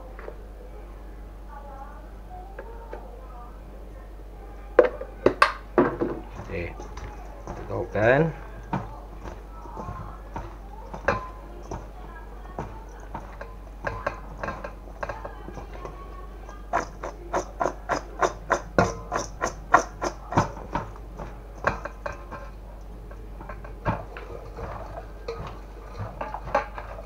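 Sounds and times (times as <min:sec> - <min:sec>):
food clattering in a steel bowl: 0:05.3 - 0:27.0.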